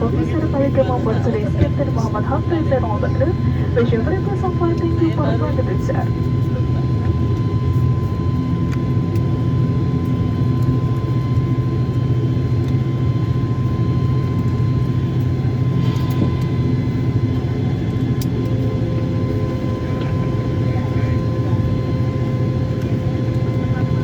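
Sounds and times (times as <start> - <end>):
turboprop engines droning in cabin: 0.0 - 24.0.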